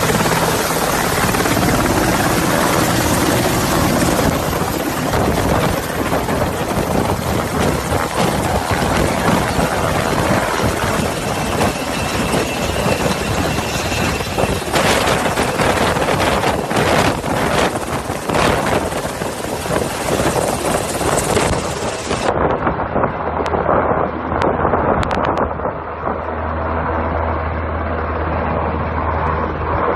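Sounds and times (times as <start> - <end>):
helicopter hovering: 0.0 - 29.9.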